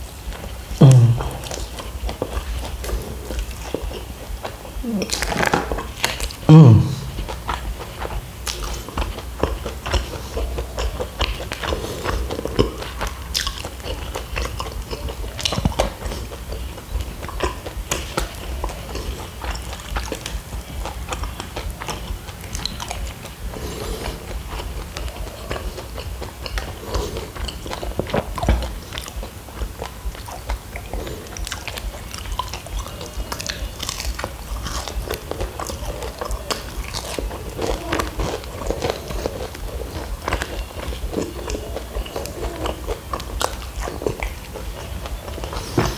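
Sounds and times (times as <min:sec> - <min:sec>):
chewing and crunching pastry: 0:00.0 - 0:45.9
low steady hum: 0:00.0 - 0:45.9.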